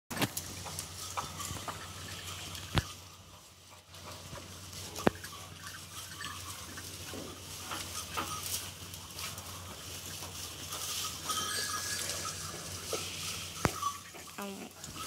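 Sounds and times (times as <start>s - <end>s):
cattle crunching straw: 0.1s - 15.0s.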